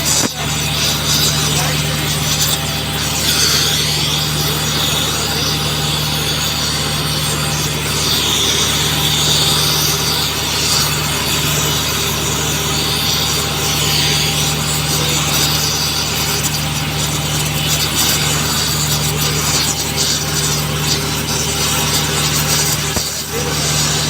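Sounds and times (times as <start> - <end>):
cutting torch hissing: 0.0 - 24.0.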